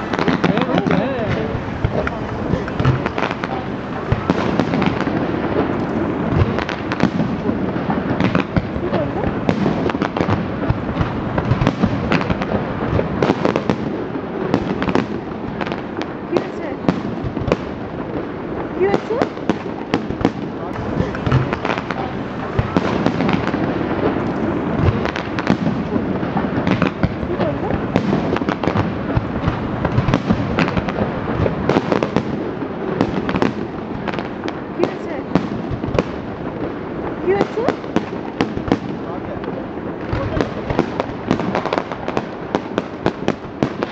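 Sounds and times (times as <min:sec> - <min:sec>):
continuous rumble: 0:00.0 - 0:43.9
fireworks bangs and crackling: 0:00.0 - 0:43.9.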